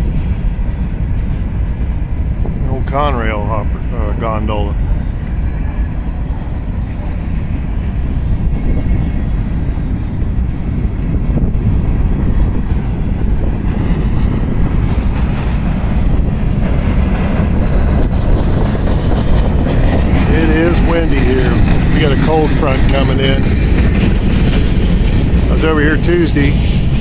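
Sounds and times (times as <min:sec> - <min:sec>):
train wheels rumbling on rail: 0:00.0 - 0:27.0
wind buffeting microphone: 0:00.0 - 0:27.0.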